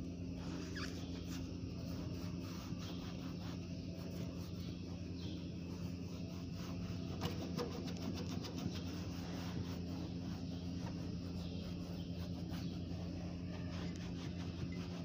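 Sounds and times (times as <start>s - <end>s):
steady low hum: 0.0s - 15.0s
small clicks and scrapes: 0.4s - 15.0s
sponge scrubbing plastic: 0.4s - 15.0s.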